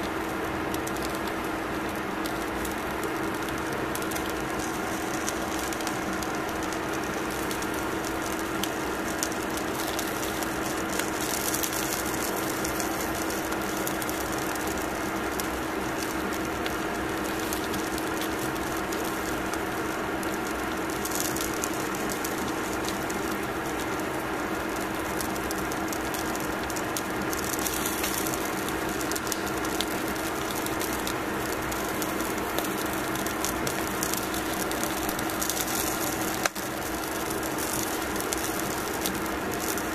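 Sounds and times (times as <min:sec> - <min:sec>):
cooker hum: 0:00.0 - 0:39.9
fish sizzling and crackling: 0:00.0 - 0:39.9.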